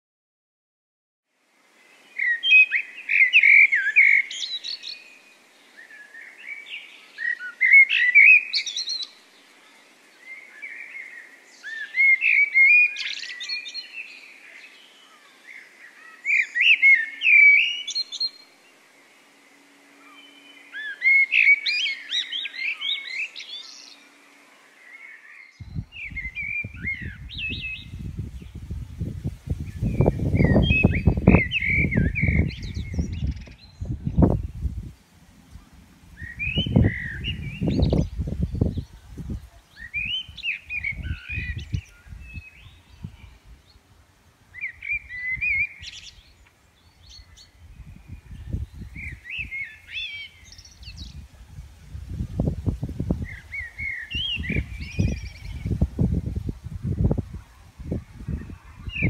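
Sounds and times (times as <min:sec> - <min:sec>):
songbird warbling: 0:02.2 - 0:05.1, 0:05.8 - 0:09.2, 0:10.2 - 0:28.7, 0:29.5 - 0:43.9, 0:44.5 - 0:52.5, 0:53.1 - 0:59.0.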